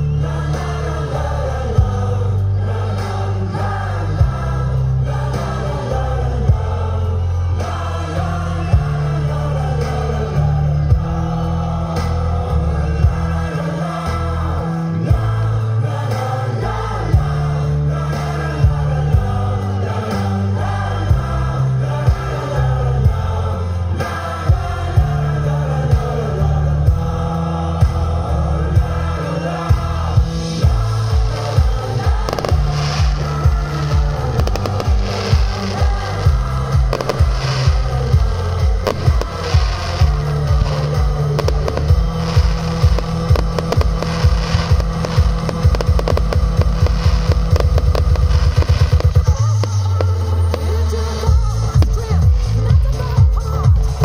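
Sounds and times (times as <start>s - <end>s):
choir singing: 0.0s - 54.0s
heavy bass line: 0.0s - 54.0s.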